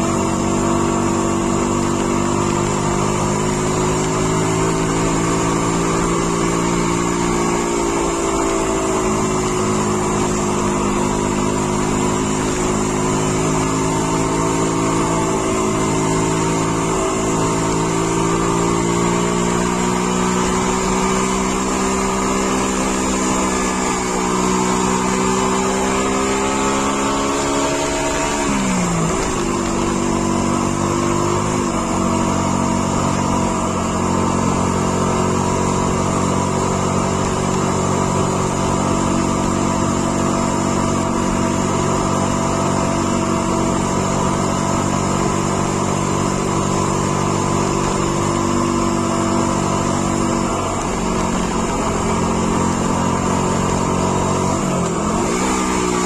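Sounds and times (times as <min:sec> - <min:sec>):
car engine pulling: 0:00.0 - 0:56.0.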